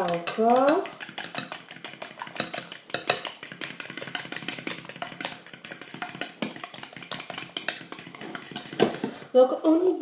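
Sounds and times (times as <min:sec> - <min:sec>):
fork beating eggs in glass bowl: 0:00.0 - 0:09.5.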